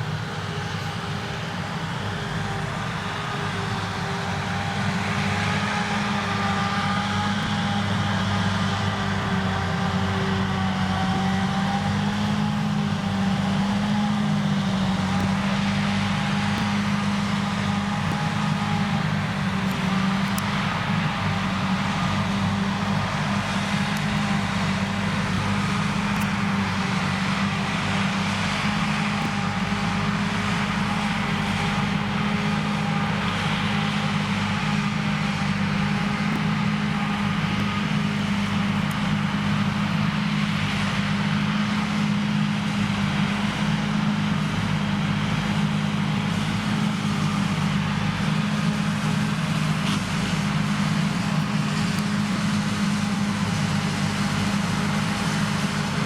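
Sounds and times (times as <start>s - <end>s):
forage harvester engine hum: 0.0s - 56.0s
rush of crop chopping: 2.1s - 56.0s.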